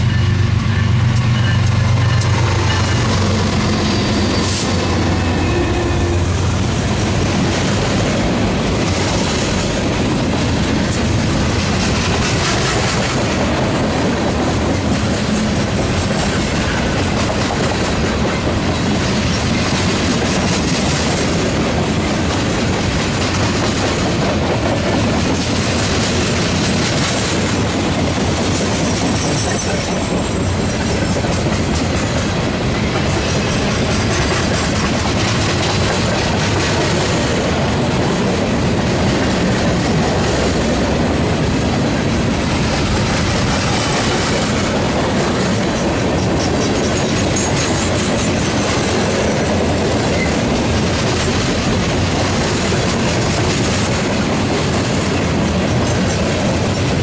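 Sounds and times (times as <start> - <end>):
diesel locomotive engines: 0.0 - 57.0
train wheels clicking on rails: 0.0 - 57.0.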